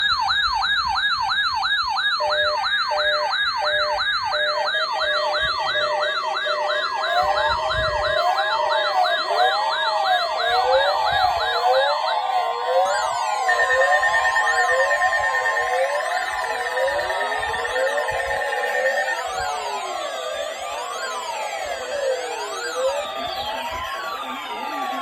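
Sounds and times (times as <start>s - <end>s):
fast yelping electronic siren: 0.0s - 25.0s
wailing siren: 0.0s - 25.0s.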